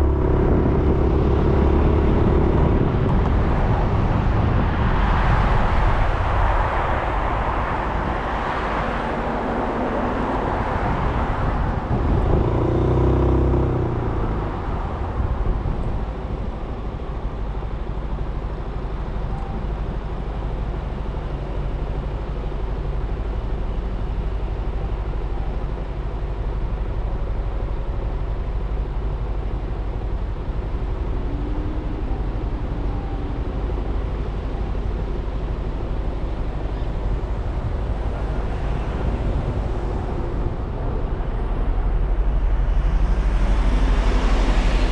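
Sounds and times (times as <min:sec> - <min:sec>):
wind and road rush: 0:00.0 - 0:44.9.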